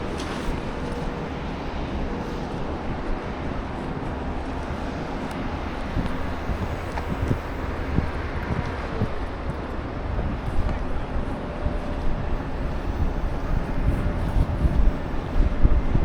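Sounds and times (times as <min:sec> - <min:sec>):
distant traffic: 0:00.0 - 0:15.9
wind rumble on microphone: 0:00.0 - 0:16.0.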